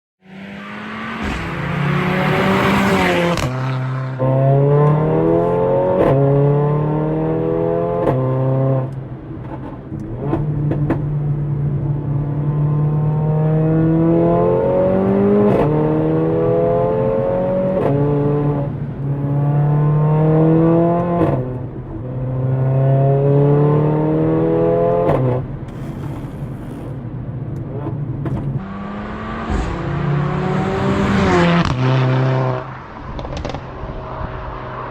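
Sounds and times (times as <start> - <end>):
car engine accelerating hard: 0.2 - 9.0, 10.0 - 27.0, 27.7 - 34.9.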